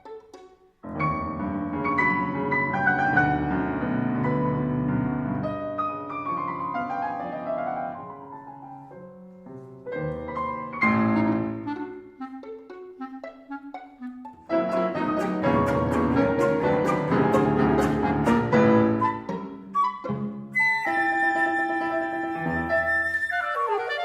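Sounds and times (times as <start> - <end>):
piano playing classical music: 0.0 - 24.0.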